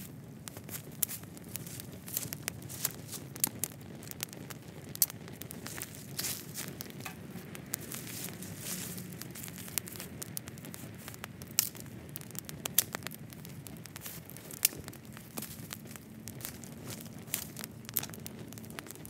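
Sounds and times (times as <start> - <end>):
low rush of flame: 0.0 - 19.0
sharp pops from burning sticks: 0.0 - 19.0
wood fire crackling: 0.0 - 19.0.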